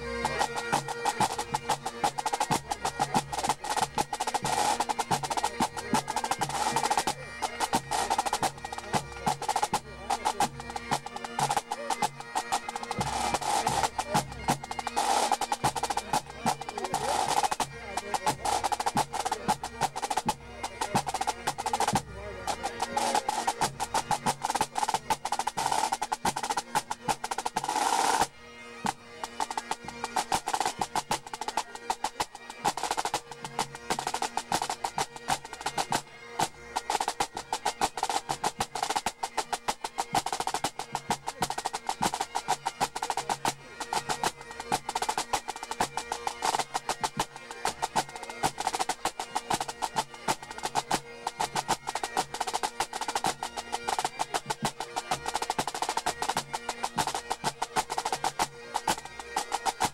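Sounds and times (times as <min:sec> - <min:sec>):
bagpipes playing: 0:00.0 - 0:59.9.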